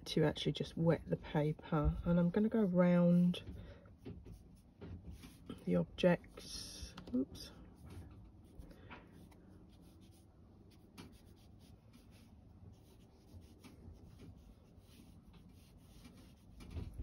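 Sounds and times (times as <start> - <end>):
brush stroking on paper: 0.8 - 17.0.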